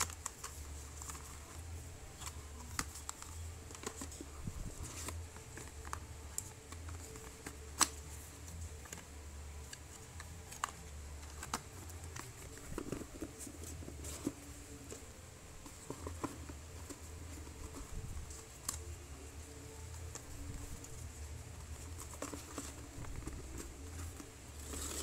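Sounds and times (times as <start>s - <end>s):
cardboard packaging handled: 0.0s - 25.0s
low steady hum: 0.0s - 25.0s.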